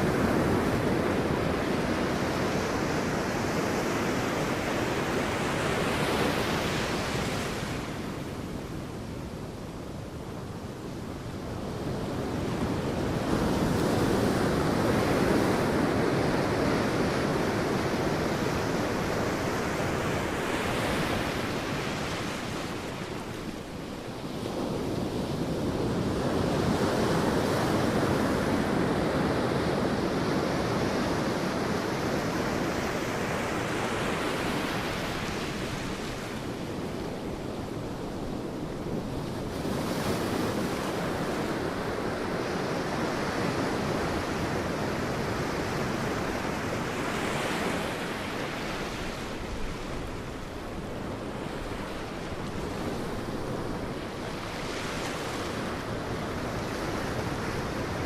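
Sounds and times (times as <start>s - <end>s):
sea waves breaking on beach: 0.0s - 8.6s, 11.2s - 58.0s.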